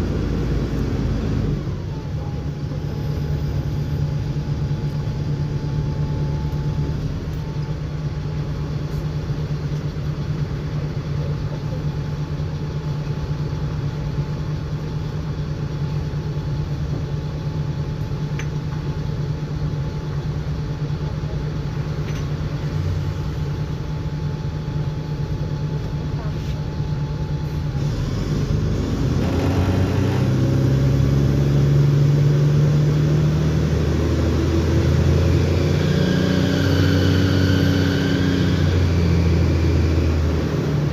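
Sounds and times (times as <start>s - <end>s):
bus diesel engine droning: 0.0s - 40.9s.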